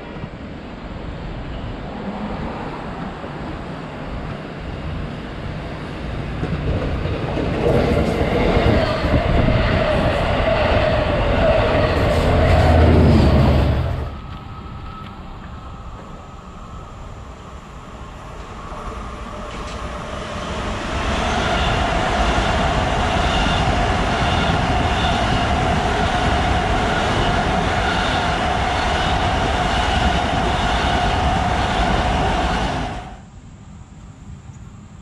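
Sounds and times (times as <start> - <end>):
train wheels rumbling on rail: 0.0 - 33.3.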